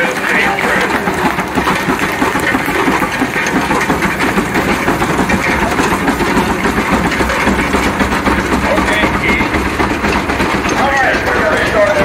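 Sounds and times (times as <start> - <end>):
steam engine clattering: 0.0 - 12.0.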